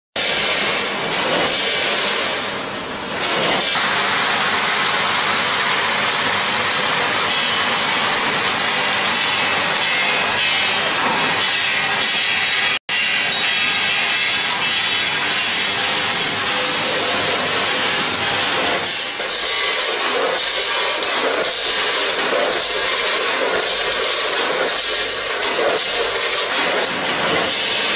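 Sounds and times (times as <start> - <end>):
packaging machine running: 0.2 - 27.9.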